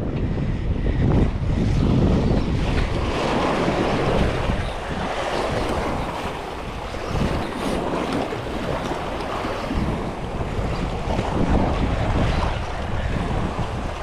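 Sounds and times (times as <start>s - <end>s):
sea surf washing: 0.0s - 14.0s
wind buffeting microphone: 0.0s - 14.0s.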